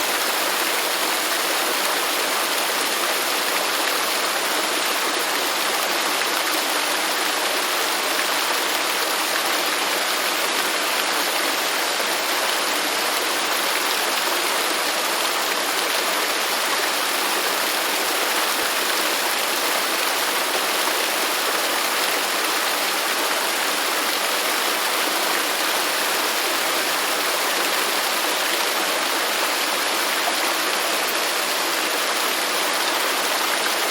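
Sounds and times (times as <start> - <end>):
waterfall splashing: 0.0 - 33.9.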